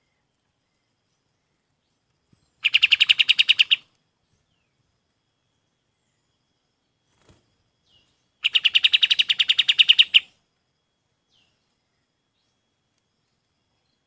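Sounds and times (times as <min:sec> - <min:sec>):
faint bird chirps: 0:00.0 - 0:14.0
songbird rapid trill: 0:00.0 - 0:14.0.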